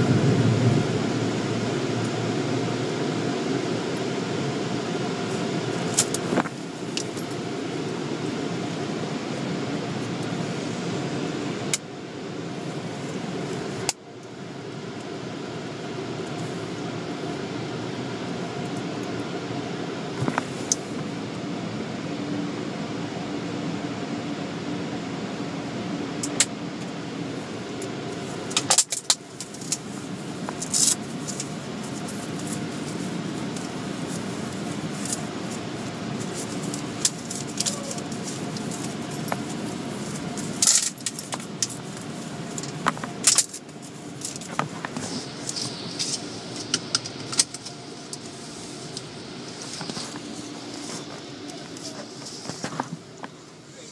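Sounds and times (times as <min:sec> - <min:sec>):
car wash machinery hum: 0:00.0 - 0:53.9.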